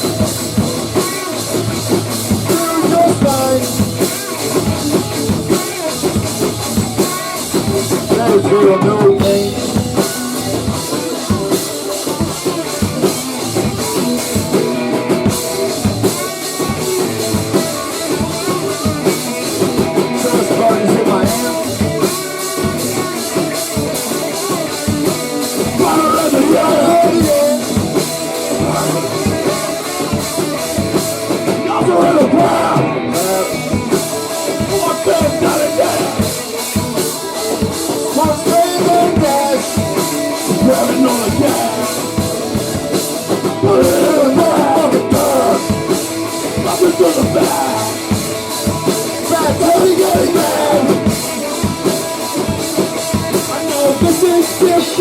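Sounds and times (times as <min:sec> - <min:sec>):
drum kit beating: 0:00.0 - 0:55.0
rock band playing: 0:00.0 - 0:55.0.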